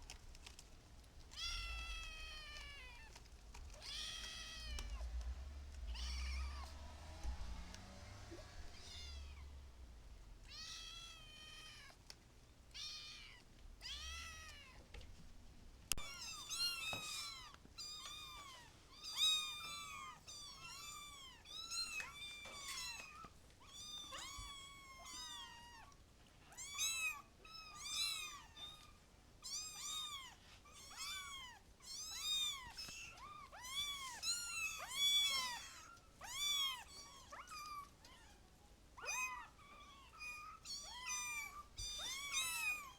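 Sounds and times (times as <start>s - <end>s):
kittens meowing: 1.3s - 12.1s, 12.7s - 15.0s, 15.9s - 42.9s.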